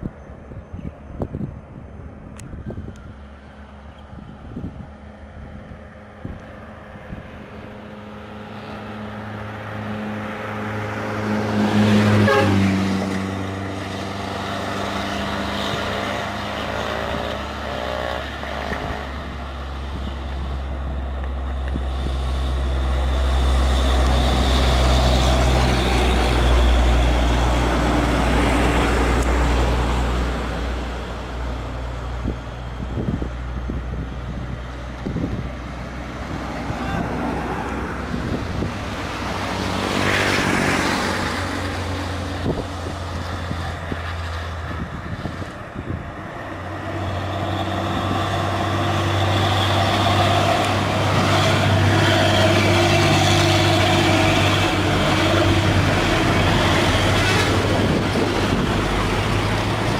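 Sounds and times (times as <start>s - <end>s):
diesel trucks labouring uphill: 0.0s - 59.9s.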